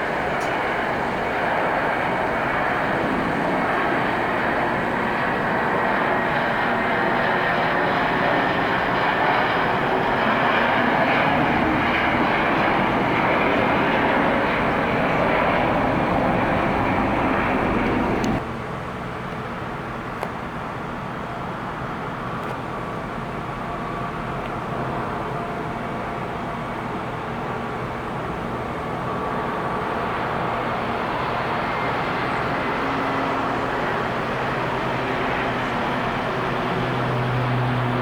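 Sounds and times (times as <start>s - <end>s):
jet airliner engines roaring: 0.0s - 38.0s.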